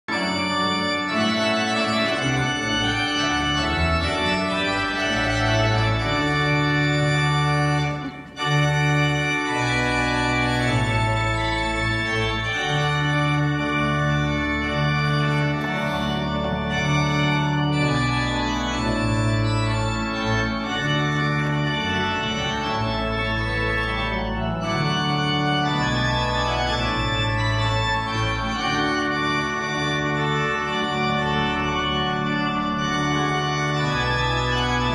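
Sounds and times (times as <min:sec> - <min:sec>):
church organ chords: 0:00.1 - 0:34.9.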